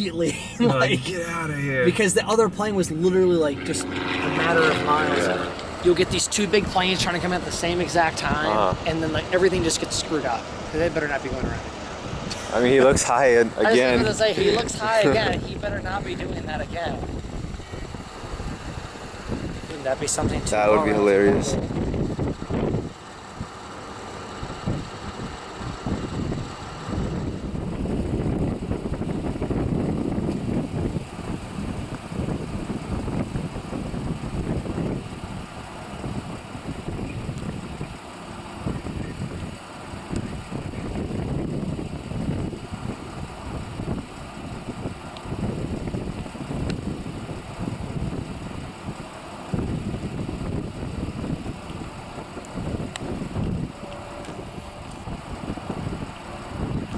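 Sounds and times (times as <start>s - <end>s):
wind buffeting microphone: 5.5s - 23.0s, 24.4s - 38.0s, 38.6s - 56.9s.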